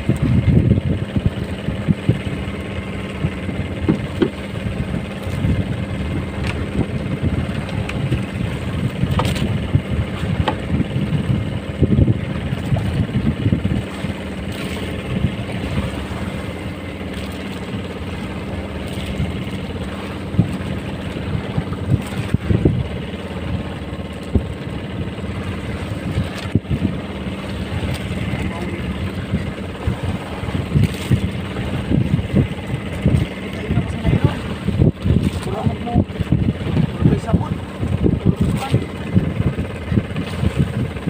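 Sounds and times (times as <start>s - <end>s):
boat engine running: 0.0s - 41.0s
wind gusting against microphone: 0.0s - 41.0s.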